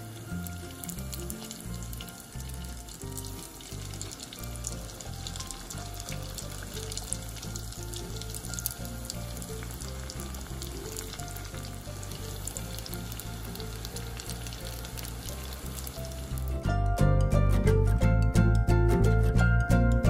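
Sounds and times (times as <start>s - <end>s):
food deep-frying in oil: 0.0s - 16.7s
background music with low beat: 0.0s - 20.0s.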